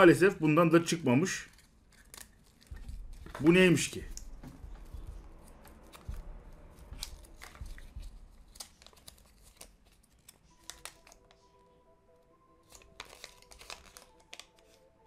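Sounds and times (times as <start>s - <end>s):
faint music: 0.0s - 15.0s
paper rustling and crinkling: 1.2s - 11.5s, 12.6s - 15.0s.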